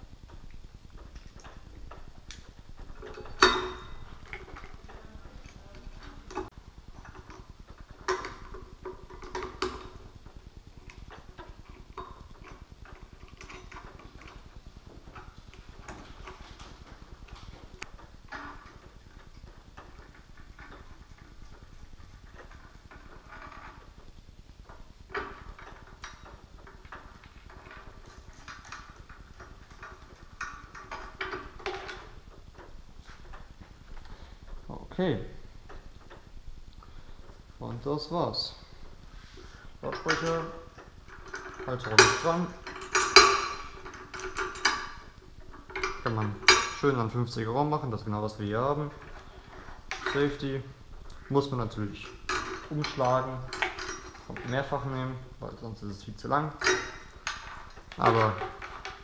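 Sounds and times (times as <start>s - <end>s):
metal hardware clicks and clinks: 0.4s - 24.0s, 24.6s - 59.0s.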